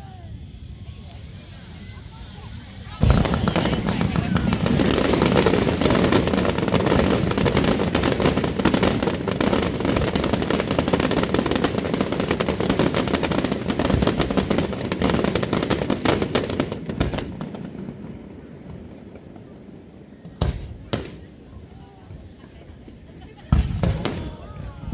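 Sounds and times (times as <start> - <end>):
fireworks crackling and popping: 0.0 - 24.9.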